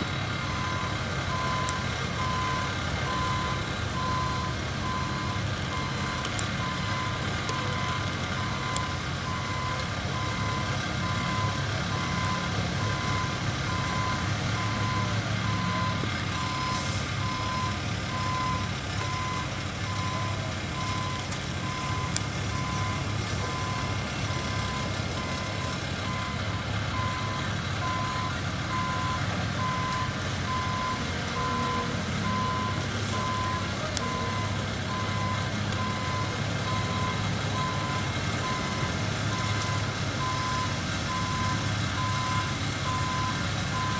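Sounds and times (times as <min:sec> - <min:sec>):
diesel engine running: 0:00.0 - 0:43.9
backup alarm beeping: 0:00.4 - 0:43.9.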